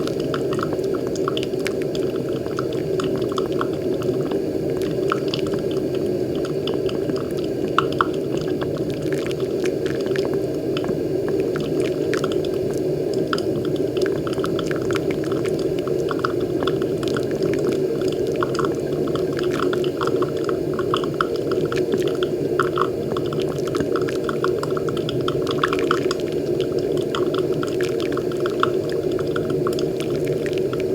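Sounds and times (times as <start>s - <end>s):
coffee popping and bubbling: 0.0s - 30.9s
hot water streaming onto coffee: 0.0s - 30.9s.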